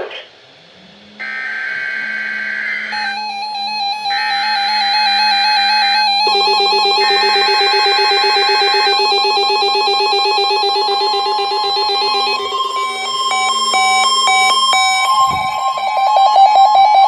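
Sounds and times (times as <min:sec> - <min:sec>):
synthesizer keyboard music: 0:02.9 - 0:17.0.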